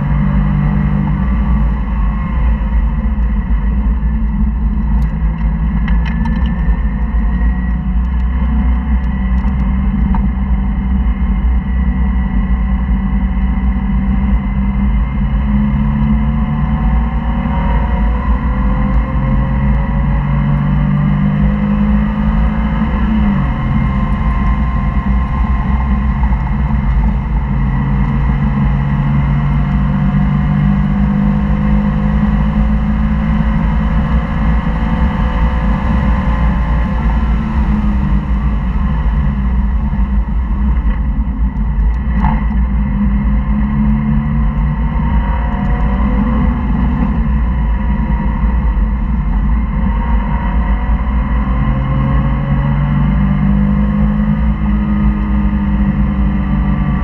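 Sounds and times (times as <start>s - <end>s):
road and wind noise: 0.0s - 57.0s
sports car engine accelerating: 0.0s - 57.0s.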